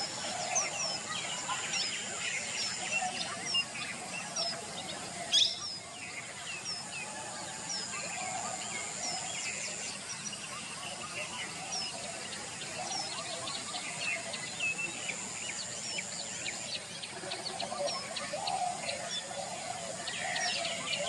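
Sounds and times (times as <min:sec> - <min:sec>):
birds twittering: 0:00.0 - 0:21.0
small birds chirping: 0:00.0 - 0:21.0.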